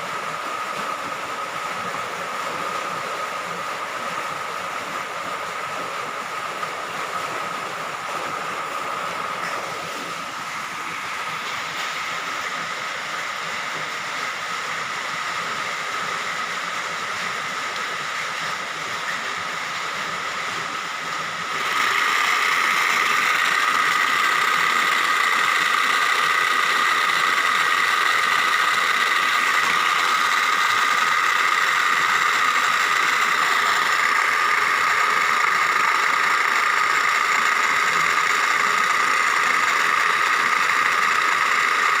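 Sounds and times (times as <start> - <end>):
small machine whining: 0.0 - 42.0.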